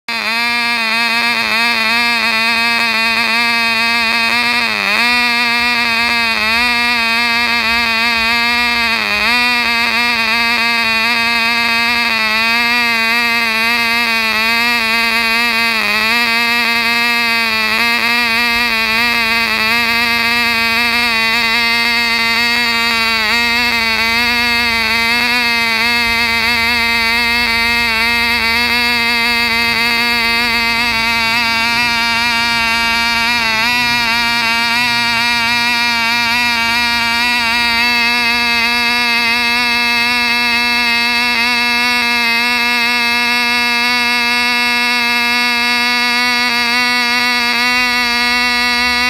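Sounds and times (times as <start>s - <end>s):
model plane engine buzzing: 0.0s - 49.0s.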